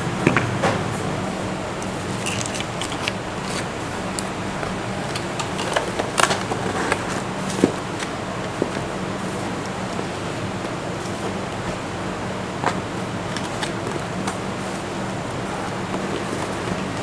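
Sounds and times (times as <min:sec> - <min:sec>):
background noise with low hum: 0:00.0 - 0:17.0.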